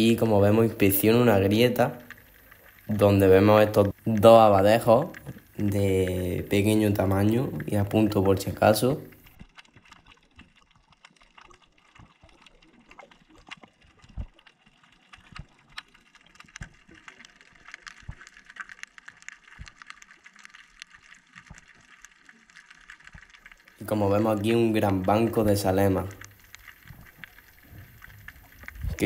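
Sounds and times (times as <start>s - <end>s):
underwater crackle of clicks: 0.0s - 29.0s.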